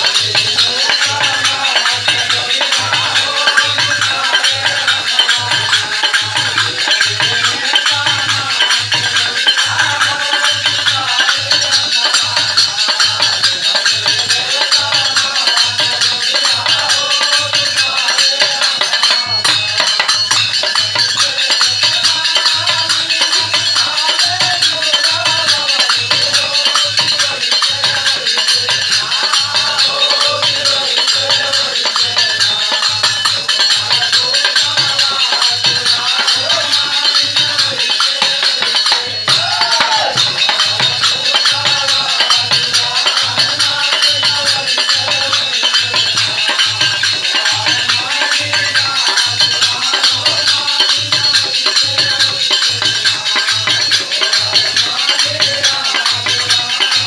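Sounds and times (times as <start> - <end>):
jingling hand percussion: 0.0 - 57.0
men singing together: 0.0 - 57.0.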